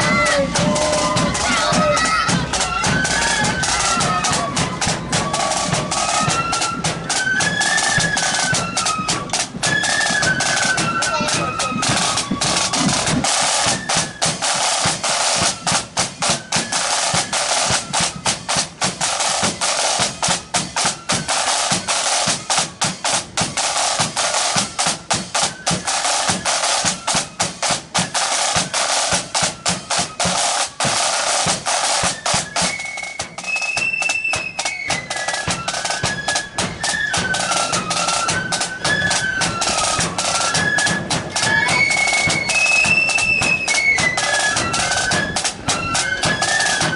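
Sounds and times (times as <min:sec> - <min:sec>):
flutes playing high melody: 0:00.0 - 0:46.9
snare drums beating: 0:00.0 - 0:46.9.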